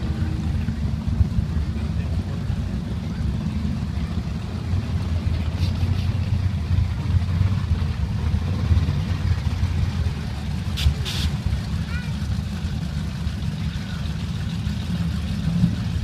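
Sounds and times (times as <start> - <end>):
drag car engines rumbling: 0.0 - 16.0.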